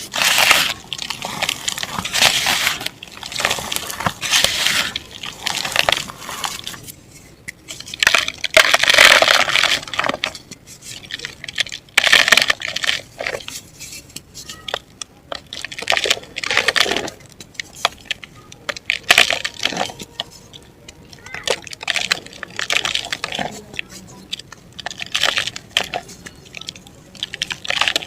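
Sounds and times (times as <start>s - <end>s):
dry mud crumbling and crushing: 0.0s - 28.0s.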